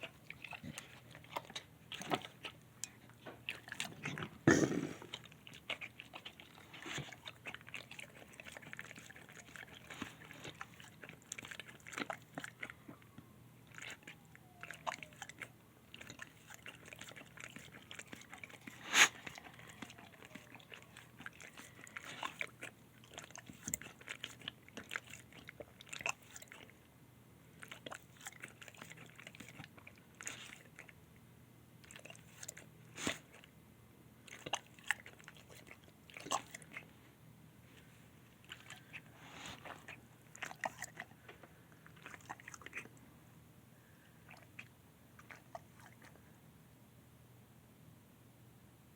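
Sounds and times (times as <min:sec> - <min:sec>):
dog chewing and crunching bones: 0:00.0 - 0:26.9, 0:27.5 - 0:31.1, 0:31.8 - 0:33.6, 0:34.2 - 0:37.0, 0:37.7 - 0:43.0, 0:44.1 - 0:46.3.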